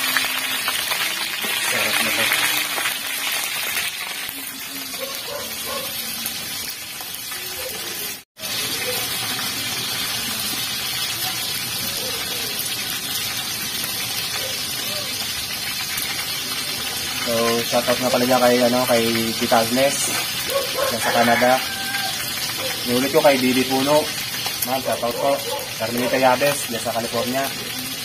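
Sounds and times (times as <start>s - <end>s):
fish sizzling in hot oil: 0.0s - 28.0s.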